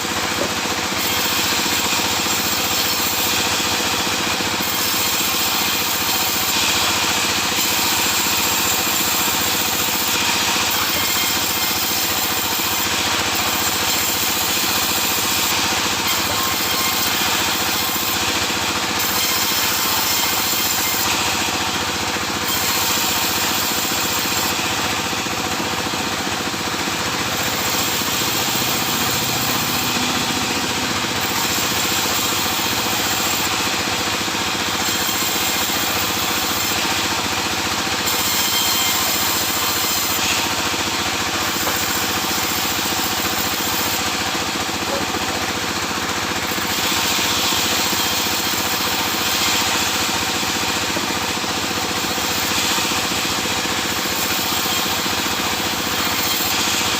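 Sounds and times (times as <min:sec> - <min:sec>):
sawmill machine drone: 0:00.0 - 0:56.9.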